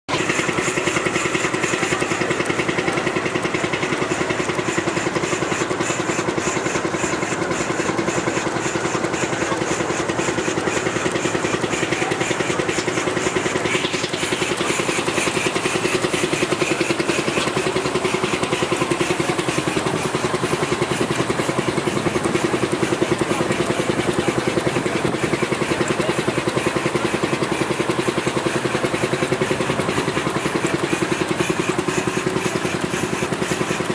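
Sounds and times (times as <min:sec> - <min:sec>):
steam engine running: 0:00.1 - 0:33.9.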